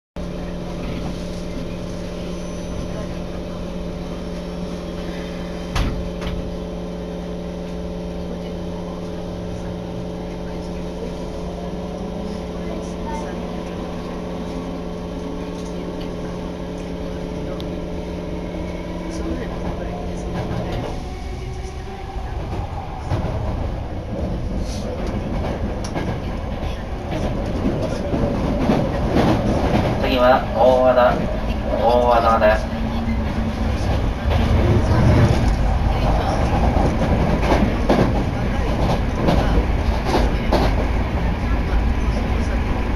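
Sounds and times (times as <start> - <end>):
train carriage rumble: 0.2 - 42.9.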